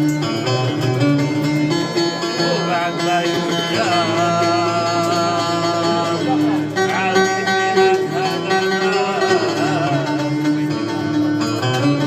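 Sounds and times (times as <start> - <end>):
plucked string instruments: 0.0 - 12.0
wavering melody with vibrato: 0.0 - 12.0.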